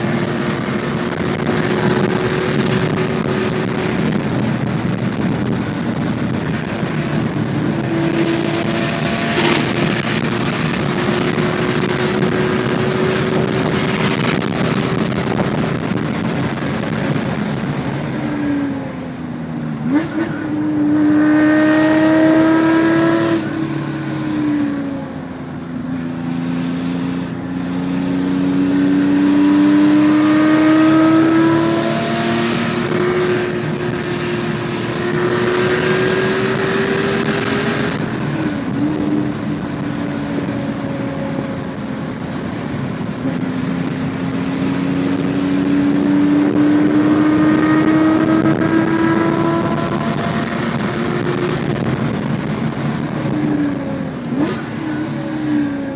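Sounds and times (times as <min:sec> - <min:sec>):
car engine revving through gears: 0:00.0 - 0:55.9.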